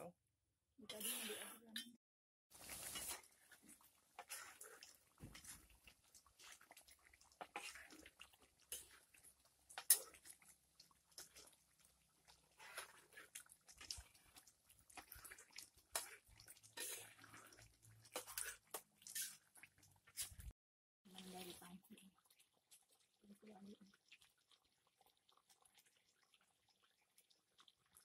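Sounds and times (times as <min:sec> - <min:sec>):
thick sauce bubbling and popping: 0:02.5 - 0:28.0.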